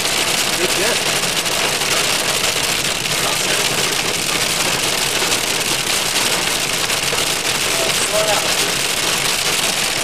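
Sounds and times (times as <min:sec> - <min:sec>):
hail and rain on a car: 0:00.0 - 0:10.0.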